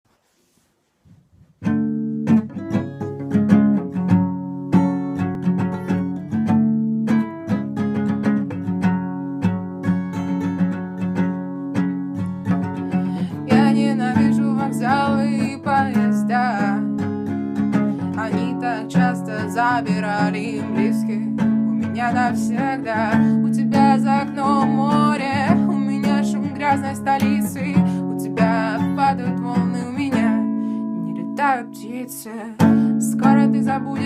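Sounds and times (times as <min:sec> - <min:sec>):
acoustic guitar picking: 0:01.6 - 0:34.0.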